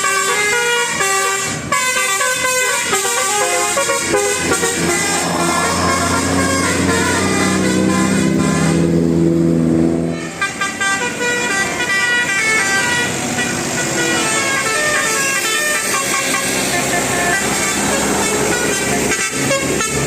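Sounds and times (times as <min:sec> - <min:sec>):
bus multi-tone horn tune: 0:00.0 - 0:20.0.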